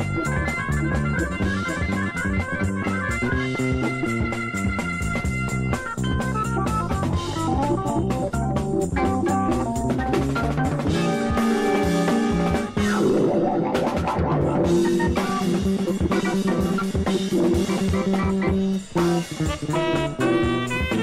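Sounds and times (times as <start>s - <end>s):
rock band music: 0.0s - 21.0s.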